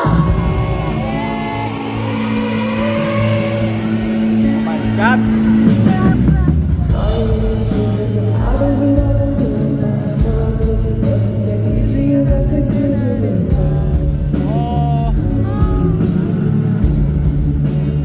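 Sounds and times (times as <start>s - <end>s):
loud live band music: 0.0s - 18.0s
person singing: 0.0s - 18.0s.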